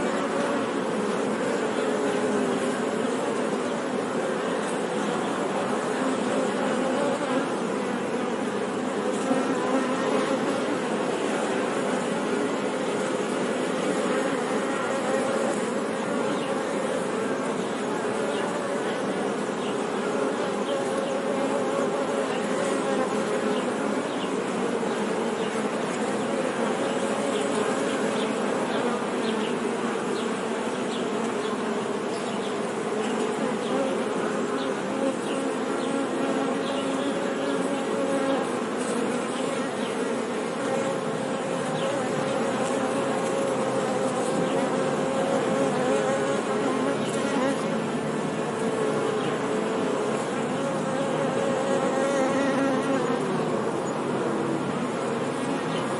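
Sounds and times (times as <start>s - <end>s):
honey bees buzzing: 0.0s - 55.9s.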